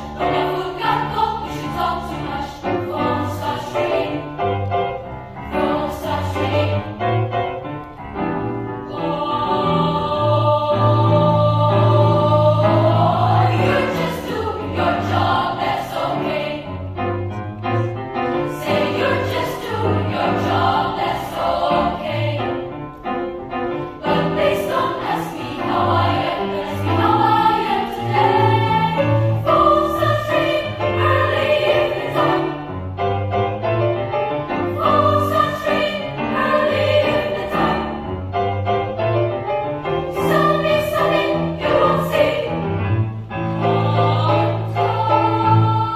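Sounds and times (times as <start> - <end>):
children's choir singing: 0.0 - 4.6, 5.5 - 7.2, 8.8 - 17.0, 18.4 - 22.8, 23.9 - 32.8, 34.6 - 38.1, 40.1 - 45.9.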